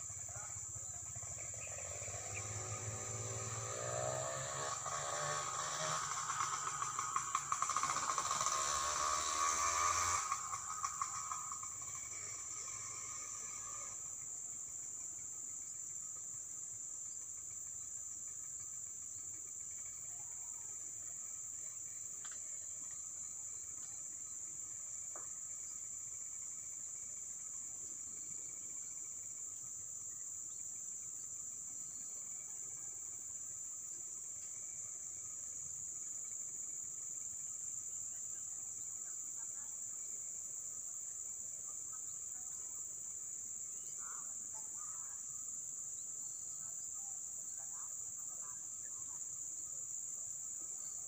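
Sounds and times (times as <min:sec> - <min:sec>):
high-pitched insect chorus: 0:00.0 - 0:51.0
lower-pitched insects calling: 0:00.0 - 0:51.0.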